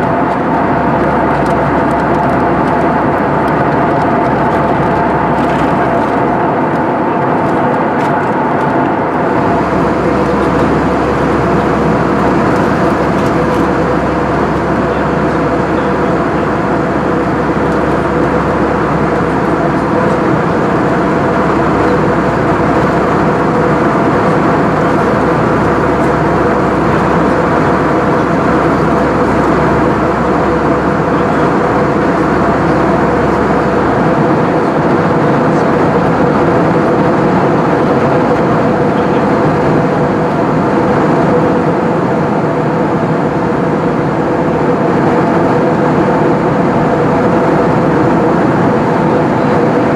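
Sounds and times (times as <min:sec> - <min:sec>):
airplane cabin engine drone: 0:00.0 - 0:49.9.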